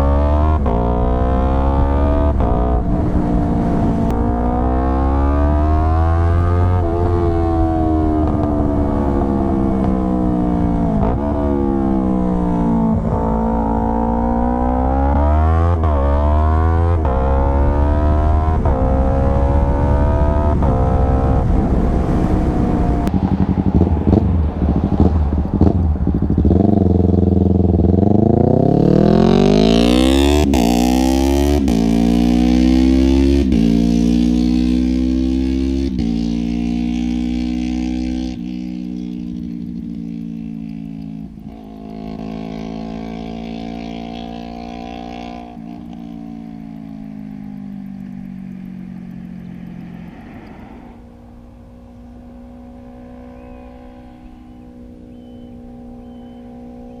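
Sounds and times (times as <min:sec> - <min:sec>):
motorcycle accelerating through gears: 0:00.0 - 0:57.0.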